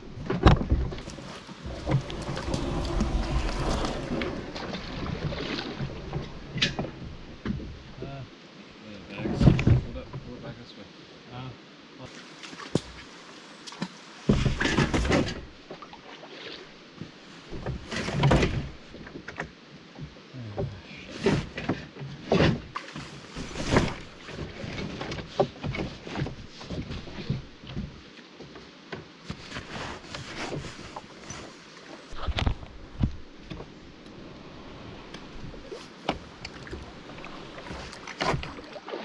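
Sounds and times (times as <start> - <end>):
paddle splashing in water: 0.0 - 8.0, 12.1 - 19.4, 20.8 - 28.4, 29.2 - 39.0.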